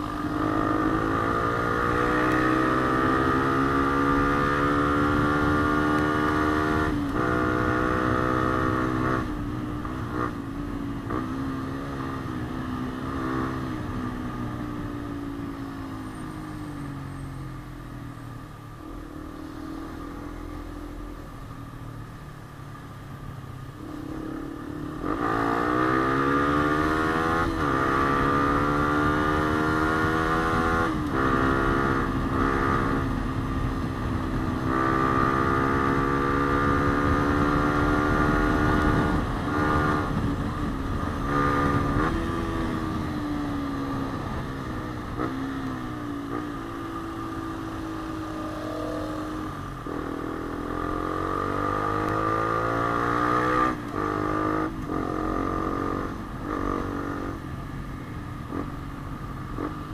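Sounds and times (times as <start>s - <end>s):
motorcycle engine revving with gear shifts: 0.0s - 59.9s.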